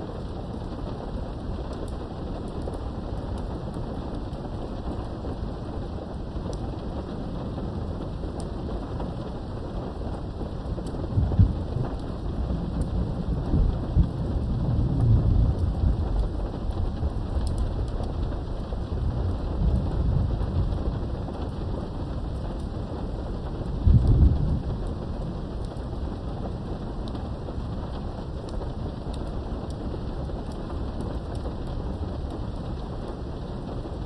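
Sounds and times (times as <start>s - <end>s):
low rumble of thunder: 0.0s - 34.0s
steady rain behind a window: 0.0s - 34.0s.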